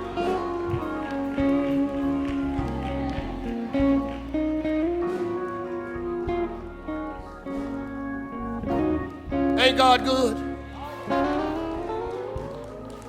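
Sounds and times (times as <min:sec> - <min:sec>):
low bass line: 0:00.0 - 0:13.0
sustained church chords: 0:00.0 - 0:13.0.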